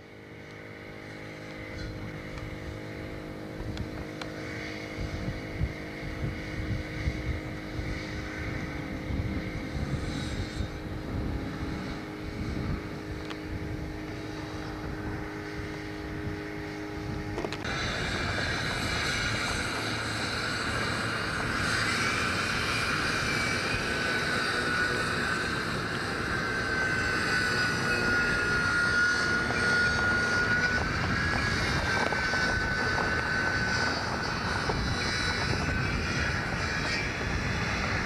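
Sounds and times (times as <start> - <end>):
steady mechanical hum: 0.0 - 38.0
wind rumbling on microphone: 0.0 - 38.0.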